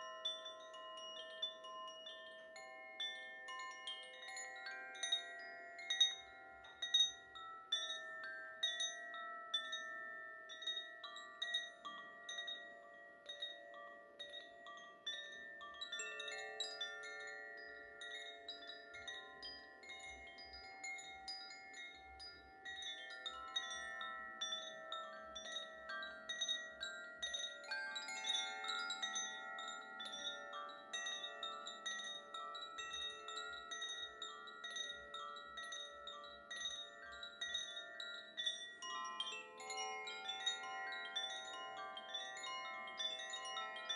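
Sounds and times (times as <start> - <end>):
wind chimes ringing: 0.0 - 43.9.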